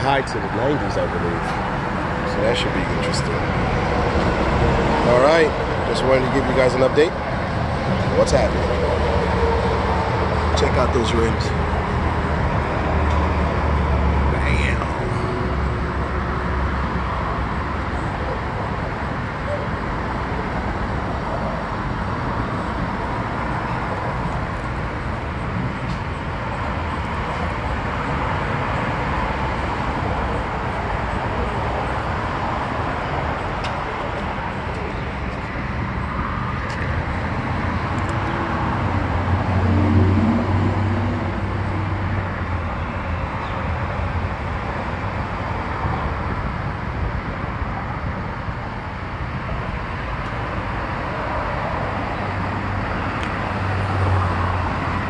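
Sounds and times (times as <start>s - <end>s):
vehicle passing: 0.0s - 45.8s, 49.9s - 55.0s
street traffic: 0.0s - 55.0s.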